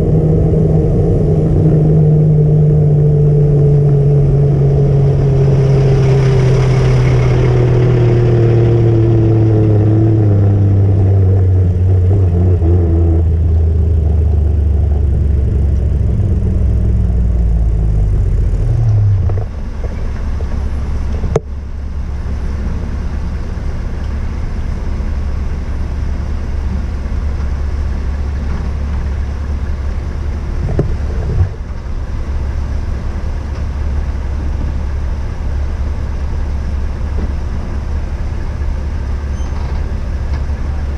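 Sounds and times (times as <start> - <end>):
diesel truck engine: 0.0 - 40.9
low engine drone: 0.0 - 40.9.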